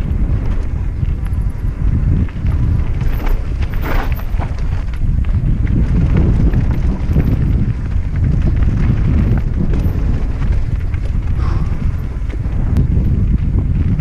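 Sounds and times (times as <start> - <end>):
bike rattling over rough trail: 0.0 - 14.0
wind buffeting microphone: 0.0 - 14.0.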